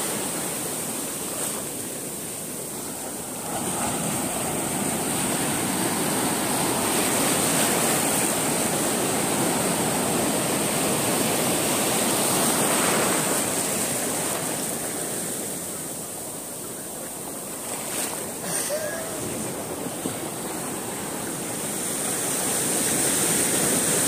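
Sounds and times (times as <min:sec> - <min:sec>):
waves breaking on sand: 0:00.0 - 0:24.0.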